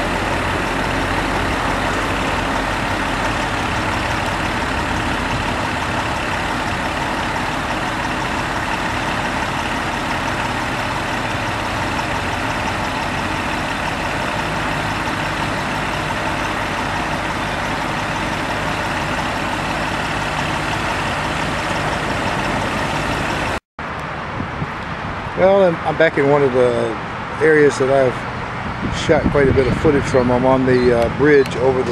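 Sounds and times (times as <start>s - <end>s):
heavy engine humming: 0.0s - 31.9s.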